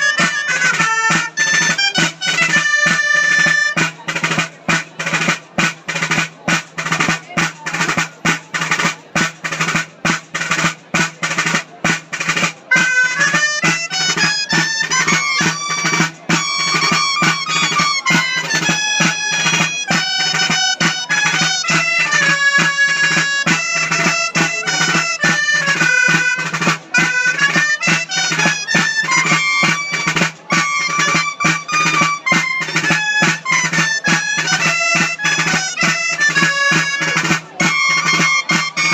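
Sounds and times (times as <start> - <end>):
fast drum rhythm: 0.0 - 38.9
shawm melody: 0.0 - 38.9.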